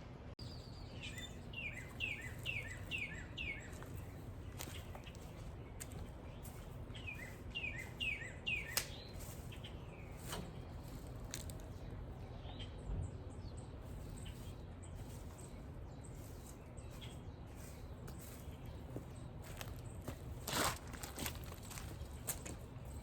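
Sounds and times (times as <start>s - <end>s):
low outdoor background: 0.0s - 23.0s
songbird chirping: 0.3s - 23.0s.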